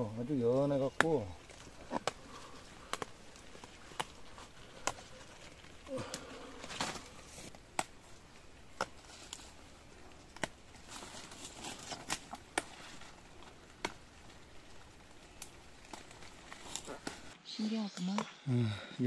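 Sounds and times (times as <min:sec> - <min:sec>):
leaves rustling: 0:00.0 - 0:17.4
leaf stalks snapping: 0:00.8 - 0:17.4.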